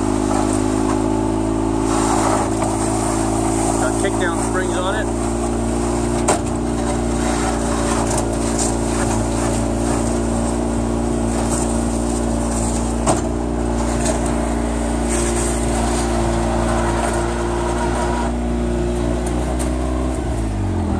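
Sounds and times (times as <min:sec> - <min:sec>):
snowblade pushing snow: 0:00.0 - 0:20.9
utility vehicle engine running: 0:00.0 - 0:20.9.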